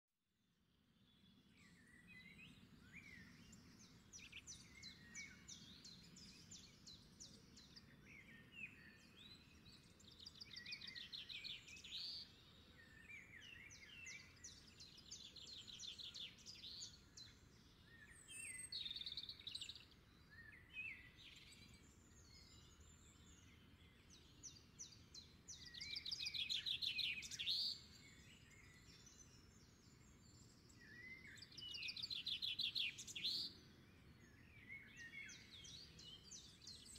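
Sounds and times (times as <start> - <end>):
birds chirping and trilling: 1.6 - 36.9.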